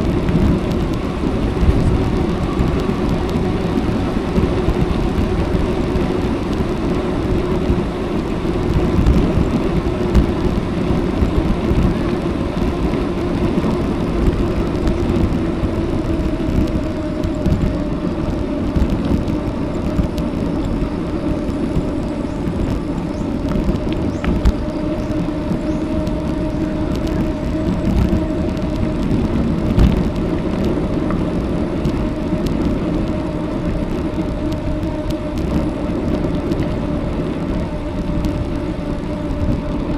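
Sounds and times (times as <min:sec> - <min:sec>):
bicycle tyres rolling on road: 0:00.0 - 0:39.9
faint steady hum: 0:00.0 - 0:39.9
wind buffeting microphone: 0:00.0 - 0:39.9.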